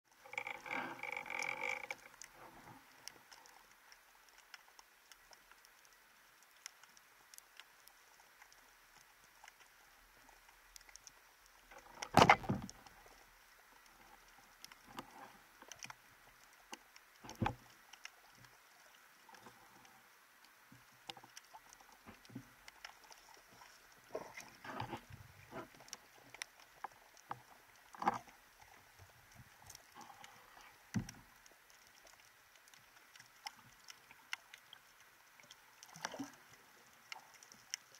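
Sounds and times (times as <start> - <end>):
underwater crackling and clicks: 0.1 - 37.9.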